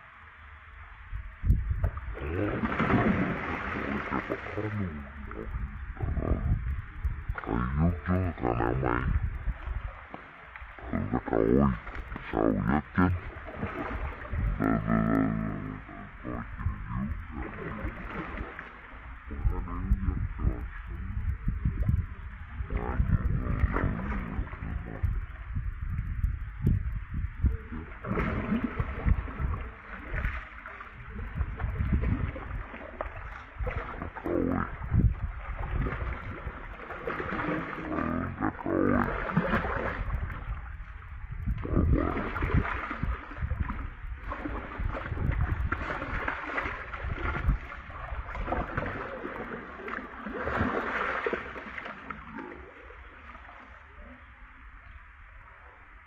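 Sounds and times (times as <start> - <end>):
low rumble: 0.0 - 49.2
water splashing and gurgling: 0.0 - 56.0.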